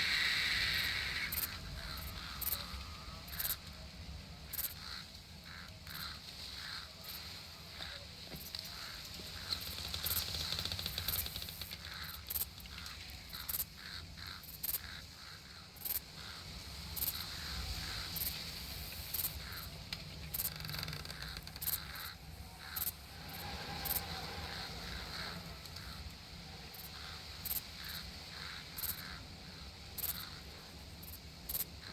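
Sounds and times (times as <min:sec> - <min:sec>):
bird calls: 0:00.0 - 0:31.9
steady background hiss: 0:00.0 - 0:31.9.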